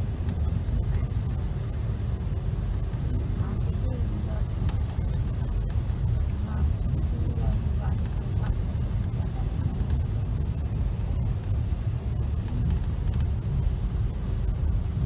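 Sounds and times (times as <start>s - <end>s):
electric train rumble from inside: 0.0s - 15.0s.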